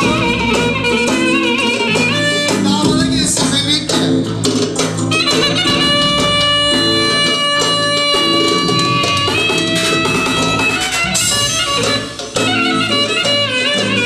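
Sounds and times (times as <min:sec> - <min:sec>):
live band playing dance music: 0:00.0 - 0:14.0.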